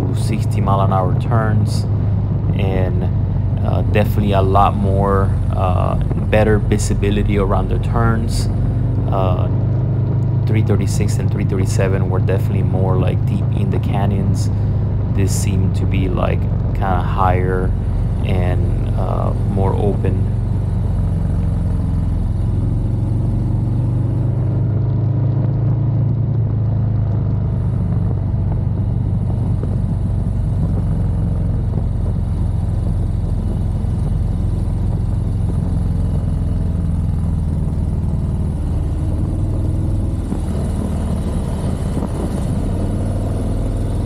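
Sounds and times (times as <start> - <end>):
motorcycle engine droning: 0.0 - 44.0.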